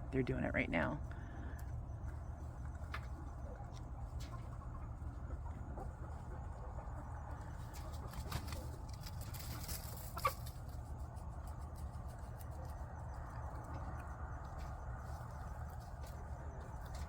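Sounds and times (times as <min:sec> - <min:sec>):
steady low hum: 0:00.0 - 0:17.0
chickens clucking: 0:00.3 - 0:17.0
chickens scratching through shavings: 0:02.6 - 0:17.0.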